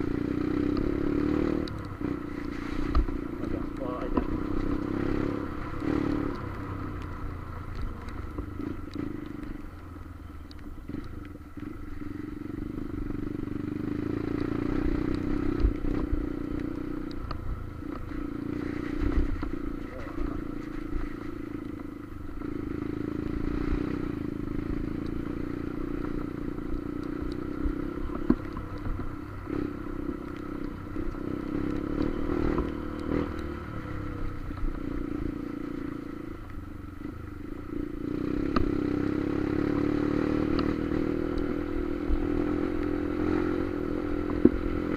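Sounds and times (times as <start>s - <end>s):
motorcycle engine running: 0.0s - 44.9s
wind and road rumble: 0.0s - 44.9s.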